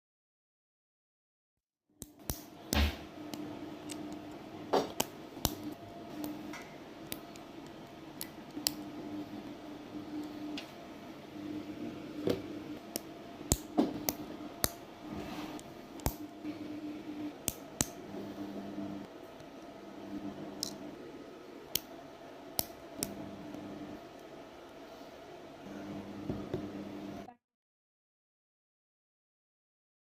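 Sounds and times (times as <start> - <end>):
faint steady hum: 2.0 - 27.3.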